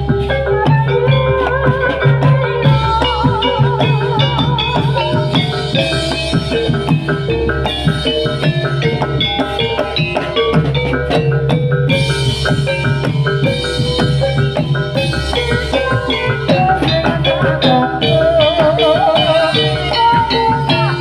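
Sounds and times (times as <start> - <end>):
hand drums playing: 0.0 - 21.0
wavering high melody: 0.0 - 21.0.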